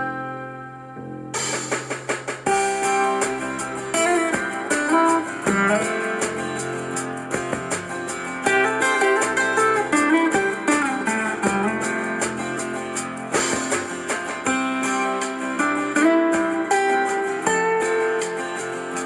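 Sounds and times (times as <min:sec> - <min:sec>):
guitar music through speaker: 0:00.0 - 0:19.0.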